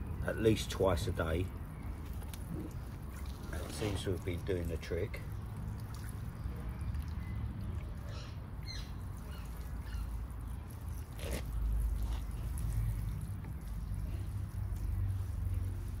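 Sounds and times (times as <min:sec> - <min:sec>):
water sprinkling onto soil: 0:00.0 - 0:16.0.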